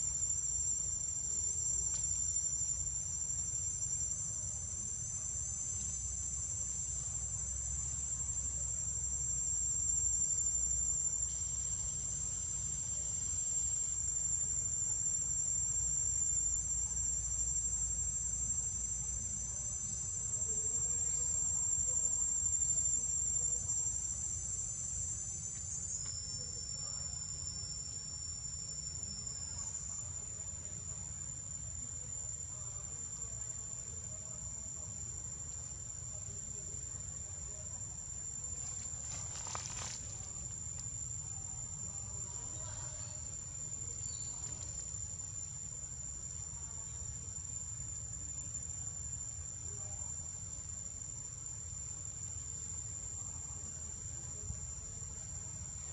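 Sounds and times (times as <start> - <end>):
insect chorus high-pitched drone: 0.0 - 55.9.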